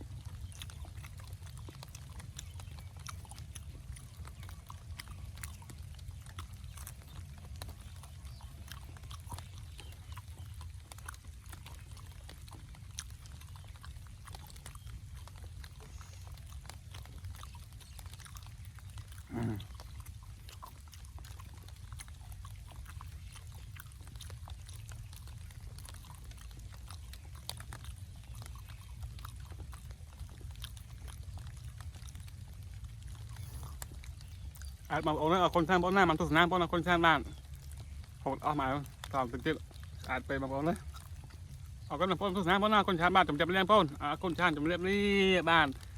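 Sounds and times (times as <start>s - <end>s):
person chewing and smacking: 0.0s - 45.9s.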